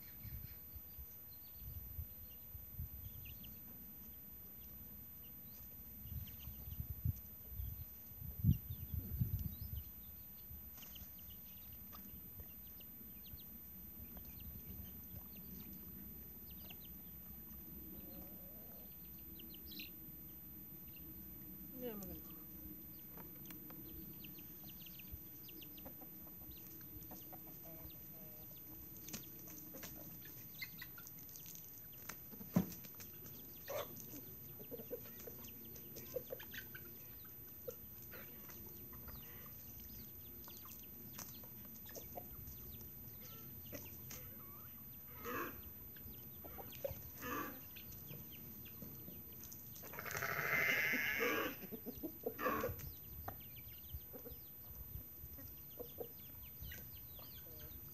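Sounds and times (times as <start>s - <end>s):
chickens clucking: 3.0s - 57.9s.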